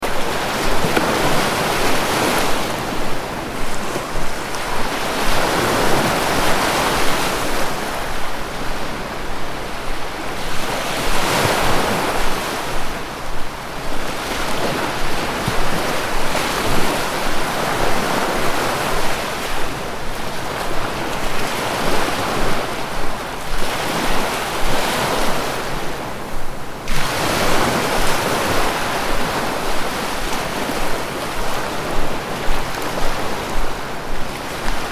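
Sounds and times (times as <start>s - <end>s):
sea waves breaking on shore: 0.0s - 34.9s
wind: 0.0s - 34.9s.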